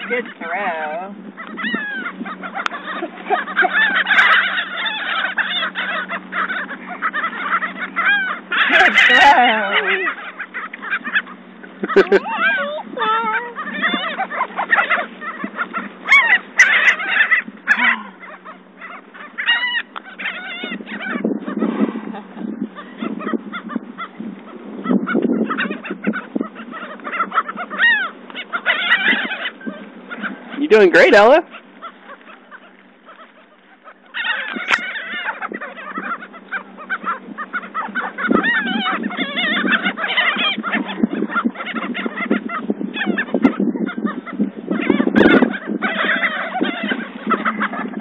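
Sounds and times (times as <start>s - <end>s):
flock of birds calling: 0.0s - 48.0s.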